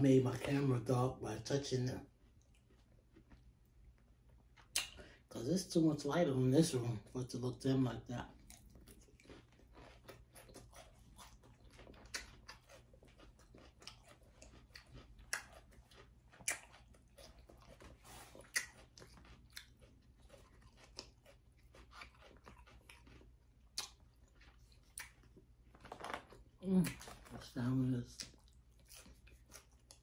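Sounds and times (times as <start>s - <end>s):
faint low hum: 0.0s - 30.0s
person chewing crisp salad: 0.2s - 5.3s, 8.1s - 30.0s.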